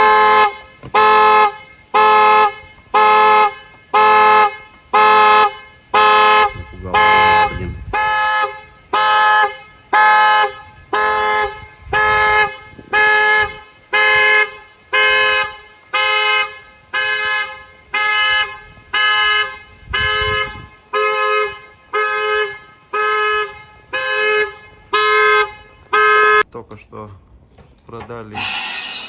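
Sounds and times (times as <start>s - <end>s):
car horn honking: 0.0s - 26.5s, 28.4s - 29.0s.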